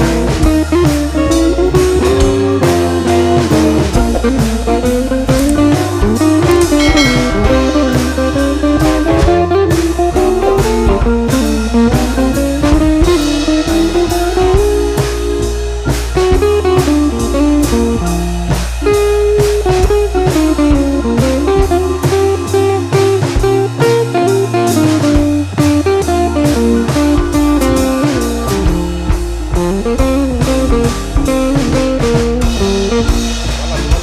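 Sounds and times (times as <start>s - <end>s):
bass line: 0.0s - 34.0s
blues guitar tune: 0.0s - 34.0s
steady drum beat: 0.0s - 34.0s.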